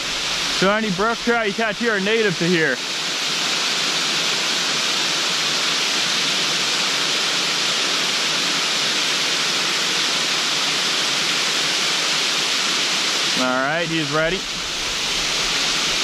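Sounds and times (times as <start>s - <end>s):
stream rushing over riffle: 0.0s - 16.0s.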